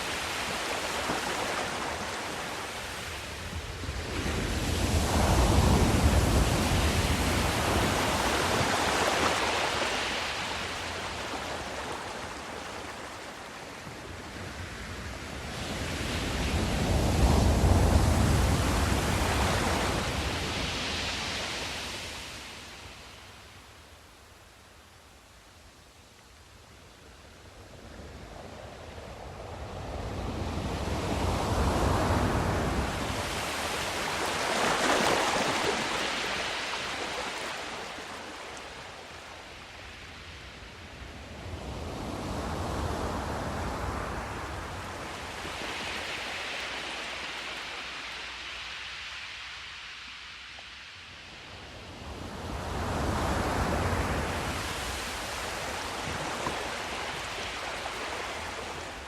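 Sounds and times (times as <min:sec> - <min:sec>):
ocean waves breaking: 0:00.0 - 0:22.4, 0:30.3 - 0:40.0, 0:41.5 - 0:50.4, 0:52.2 - 0:59.0.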